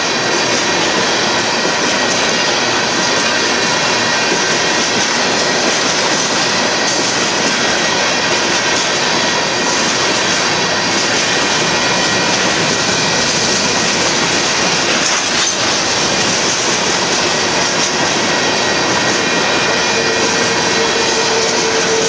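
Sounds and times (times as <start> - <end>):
freight train wheels on rails: 0.0 - 22.0.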